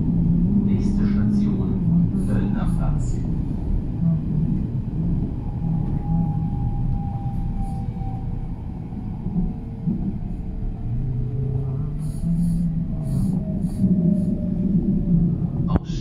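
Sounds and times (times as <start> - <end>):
faint whine: 0.0 - 16.0
train running rumble: 0.0 - 16.0.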